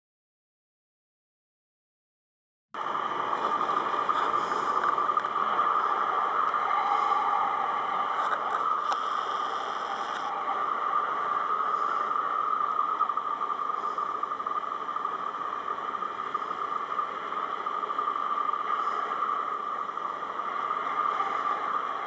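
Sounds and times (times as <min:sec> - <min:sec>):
tractor engine drone: 0:02.8 - 0:22.0.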